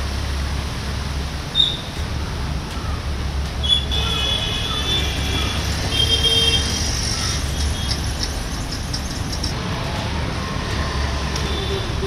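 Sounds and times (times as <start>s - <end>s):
vehicle traffic rumble: 0.0s - 12.0s.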